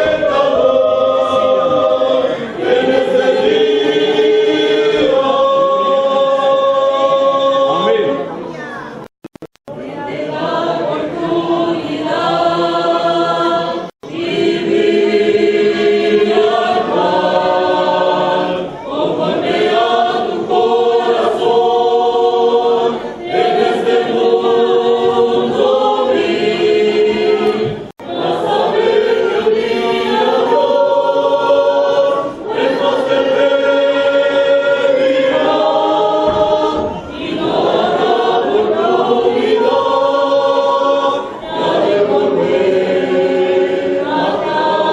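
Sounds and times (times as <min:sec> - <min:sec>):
choir singing a hymn: 0:00.0 - 0:08.4, 0:09.7 - 0:44.9.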